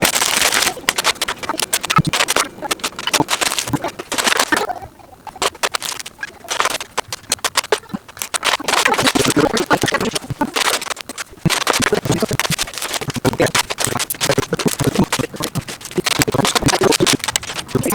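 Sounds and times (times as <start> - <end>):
plastic bricks clicking and clattering: 0.0 - 4.7, 5.4 - 17.9.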